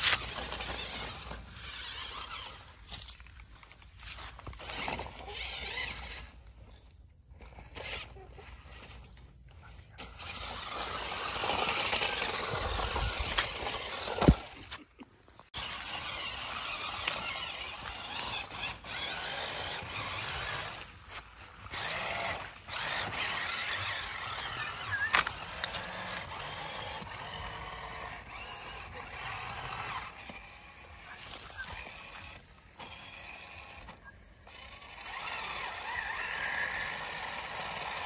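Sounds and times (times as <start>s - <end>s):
electric motor and gears whirring: 0.0s - 38.0s.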